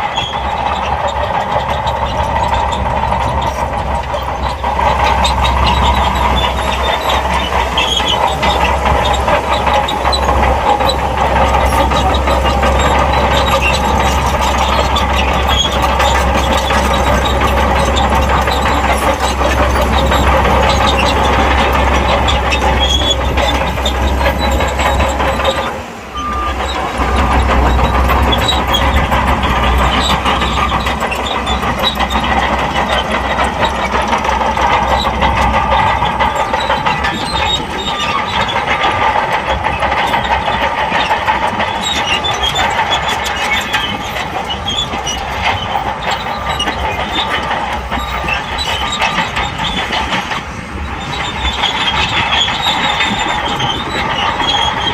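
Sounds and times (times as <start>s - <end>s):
diesel engine under load: 0.0s - 54.9s
steel tracks clanking: 0.0s - 54.9s.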